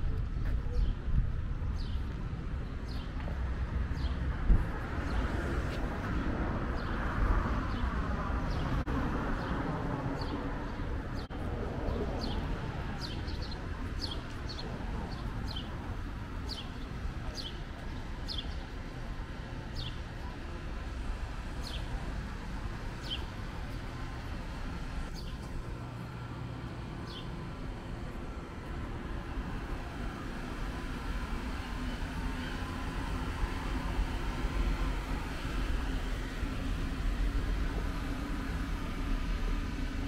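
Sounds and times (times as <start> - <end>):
city traffic rumble: 0.0 - 40.0.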